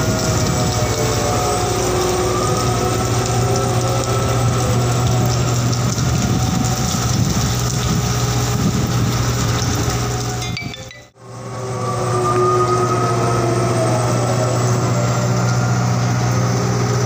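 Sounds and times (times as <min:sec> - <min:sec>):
heavy rain on steel deck: 0:00.0 - 0:17.0
low engine hum: 0:00.0 - 0:17.0.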